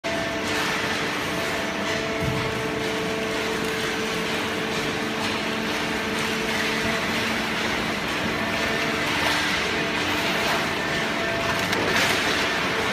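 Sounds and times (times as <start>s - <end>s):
baler machine humming: 0.0s - 12.9s.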